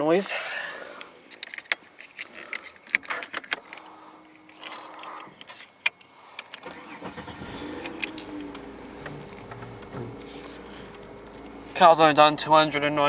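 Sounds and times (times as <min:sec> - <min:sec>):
car keys jangling: 0:01.0 - 0:12.9.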